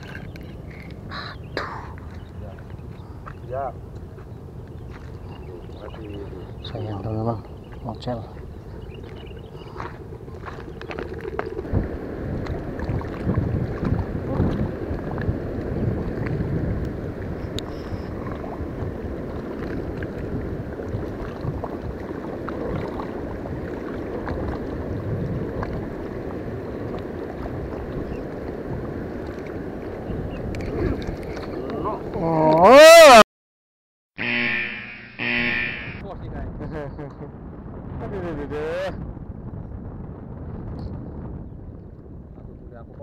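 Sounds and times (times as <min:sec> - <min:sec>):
wind buffeting microphone: 0:00.0 - 0:32.6, 0:36.0 - 0:43.0.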